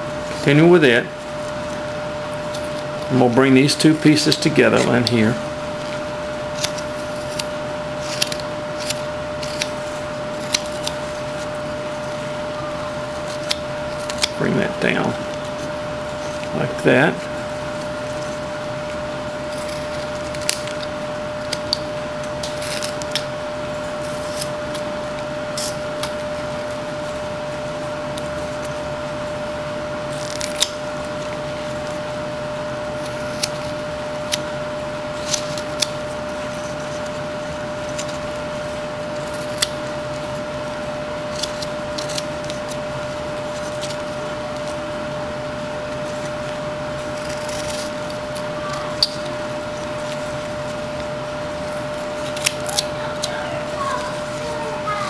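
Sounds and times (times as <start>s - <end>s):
background hum with whine: 0.0s - 55.0s.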